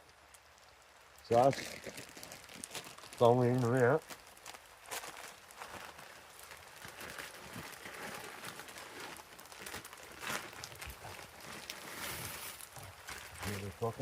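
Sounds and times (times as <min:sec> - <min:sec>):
meat sizzling in a frying pan: 0:01.1 - 0:14.0.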